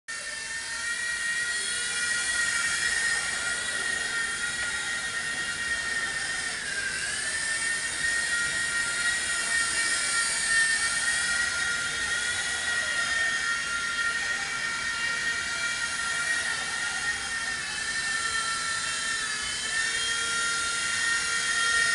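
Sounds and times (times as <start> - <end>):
toy helicopter rotor whine: 0.1 - 21.9.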